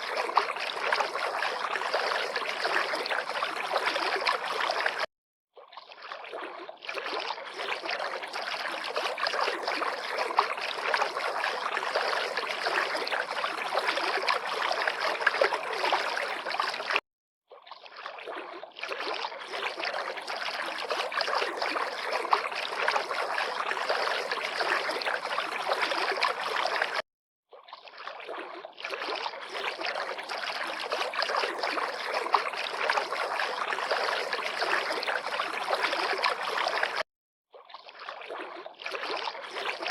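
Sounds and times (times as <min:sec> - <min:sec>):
river water lapping: 0:00.0 - 0:17.0, 0:17.6 - 0:27.0, 0:27.6 - 0:37.0, 0:37.6 - 0:39.9.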